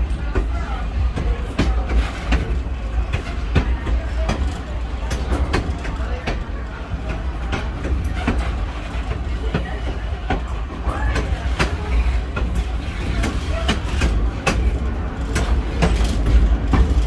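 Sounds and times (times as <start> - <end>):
train car rumbling: 0.0 - 17.0
wheels clicking over rail joints: 0.0 - 17.0.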